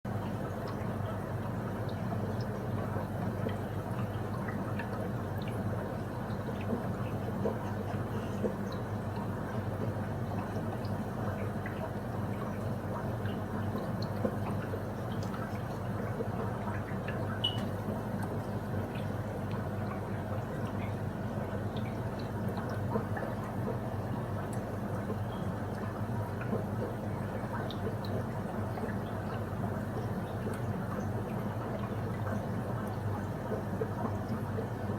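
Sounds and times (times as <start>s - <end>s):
aquarium water running: 0.1s - 34.9s
water drips: 0.2s - 34.9s.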